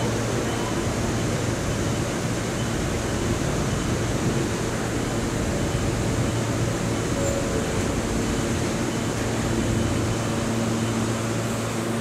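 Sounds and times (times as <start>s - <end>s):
subway train equipment humming: 0.0s - 12.0s.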